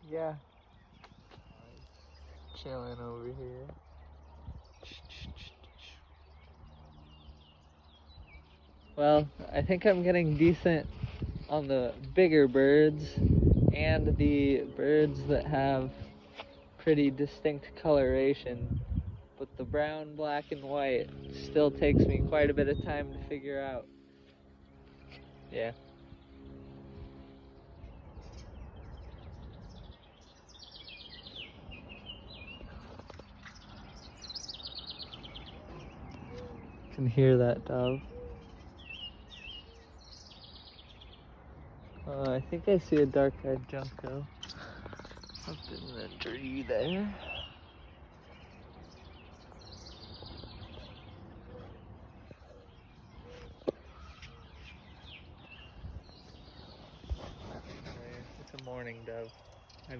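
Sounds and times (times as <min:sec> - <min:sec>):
small birds chirping: 0:00.0 - 0:59.9
songbird singing: 0:00.0 - 0:59.9
wind rumble on microphone: 0:00.0 - 0:59.9.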